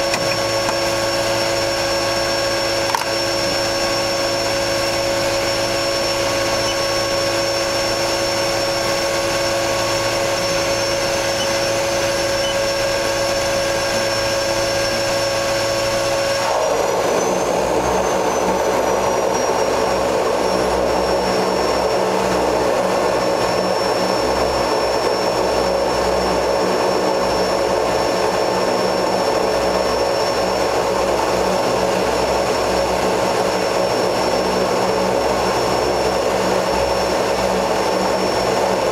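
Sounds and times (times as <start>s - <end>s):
high turbine whine: 0.0s - 38.9s
turboprop engine running: 0.0s - 38.9s.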